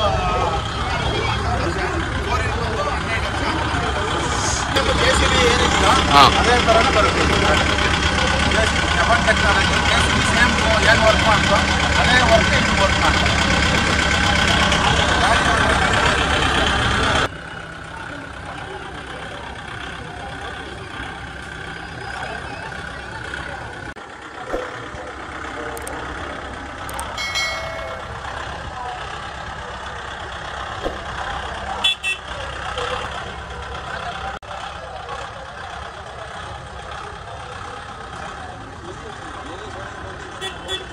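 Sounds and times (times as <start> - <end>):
crowd chatter: 0.0 - 40.9
tractor diesel engine running: 0.0 - 40.9.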